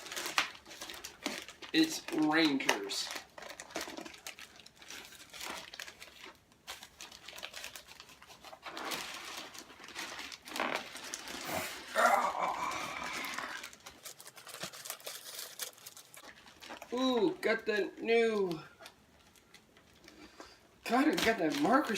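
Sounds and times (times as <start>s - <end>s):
packaging crinkling and tearing: 0.0s - 21.9s.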